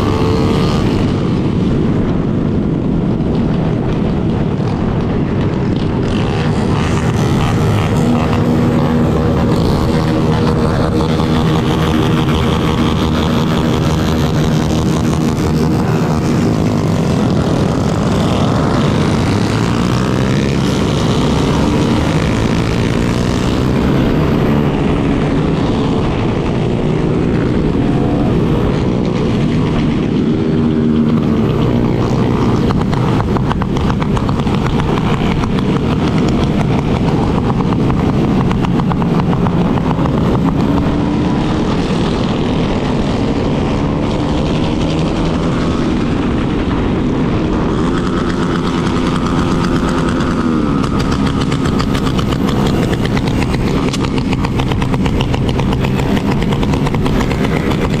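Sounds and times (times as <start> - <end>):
motorcycle engines running: 0.0 - 58.0
wind noise: 0.0 - 58.0.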